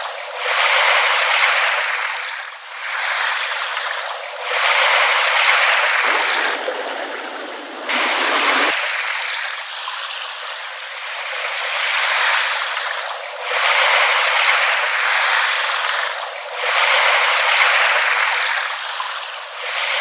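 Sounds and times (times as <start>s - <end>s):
small waves washing: 0.0s - 20.0s.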